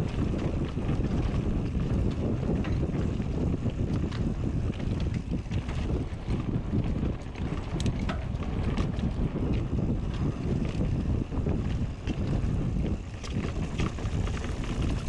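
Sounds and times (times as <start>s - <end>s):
bike tyres rumbling on dirt: 0.0s - 15.0s
small clicks and rattles: 0.0s - 15.0s
wind buffeting microphone: 0.0s - 15.0s.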